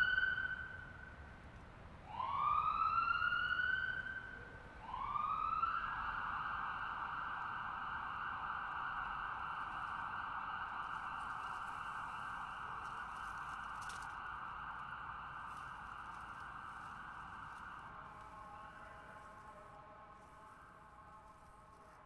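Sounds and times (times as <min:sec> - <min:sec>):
ambulance siren wailing: 0:00.0 - 0:01.2, 0:02.0 - 0:22.0.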